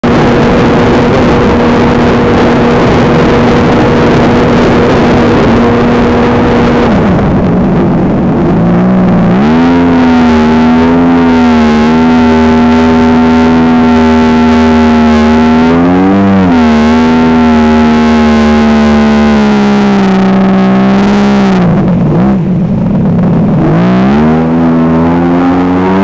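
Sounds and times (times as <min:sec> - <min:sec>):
jet ski engine running: 0:00.0 - 0:26.0
wind and water rushing: 0:00.0 - 0:26.0.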